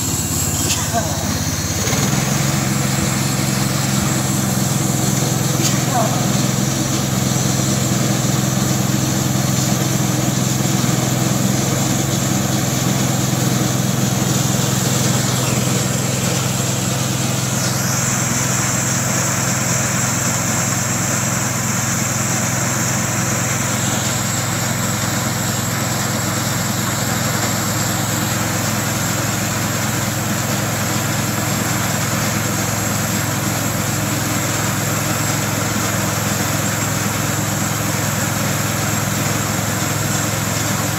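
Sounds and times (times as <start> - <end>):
band saw cutting log: 0.0 - 40.9
small gas engine running: 0.0 - 40.9.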